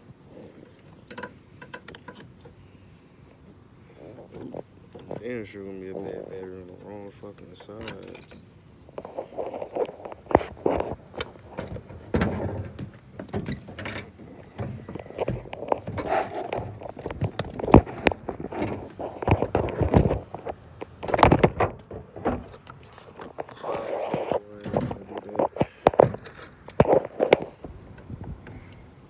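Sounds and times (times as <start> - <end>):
handling noise: 0.0 - 28.7.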